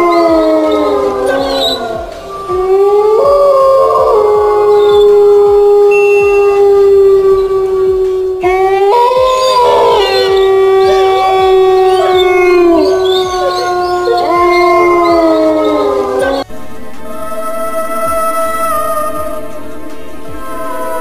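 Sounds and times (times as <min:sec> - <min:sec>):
dogs howling in chorus: 0:00.0 - 0:16.5, 0:17.1 - 0:21.0.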